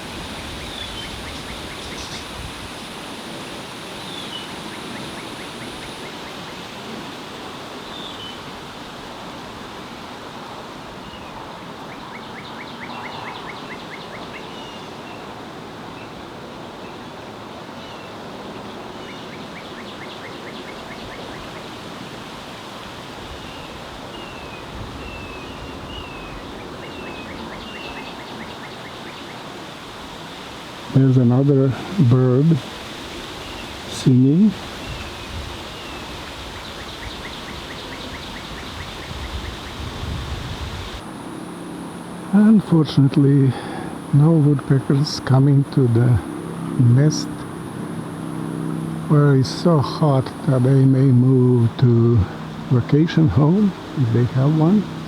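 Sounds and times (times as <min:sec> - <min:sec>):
steady outdoor hiss: 0:00.0 - 0:55.0.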